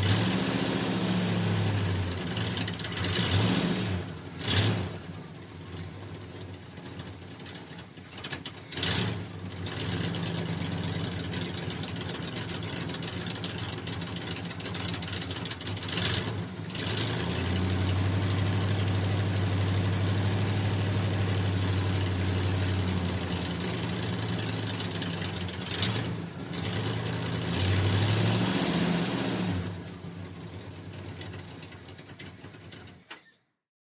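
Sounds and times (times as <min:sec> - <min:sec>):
pickup engine idling and revving: 0:00.0 - 0:33.1.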